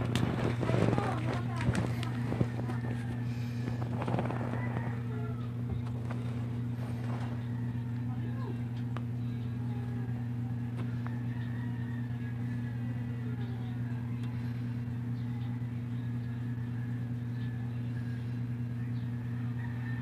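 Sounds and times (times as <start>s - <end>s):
faint voices: 0.0s - 20.0s
low mechanical hum: 0.0s - 20.0s.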